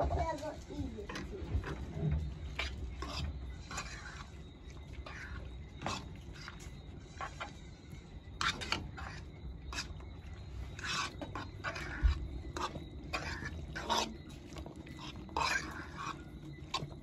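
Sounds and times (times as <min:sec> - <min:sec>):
spatula scraping frying pan: 0:01.0 - 0:07.6, 0:08.4 - 0:17.0.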